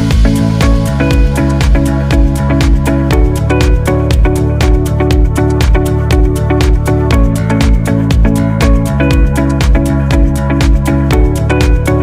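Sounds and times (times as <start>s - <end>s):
electronic music with quick beat: 0.0s - 12.0s.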